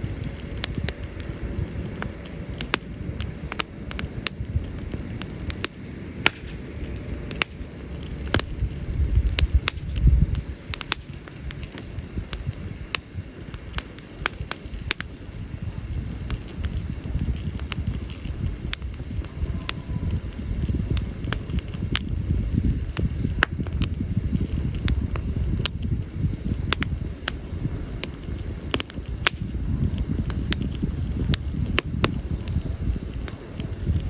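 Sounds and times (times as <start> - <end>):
campfire crackling and popping: 0.0 - 34.0
fire low rumble: 0.0 - 34.0.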